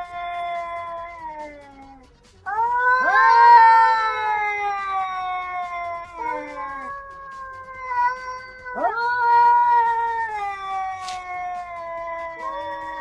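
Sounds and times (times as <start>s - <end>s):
cats yowling: 0.0s - 13.0s.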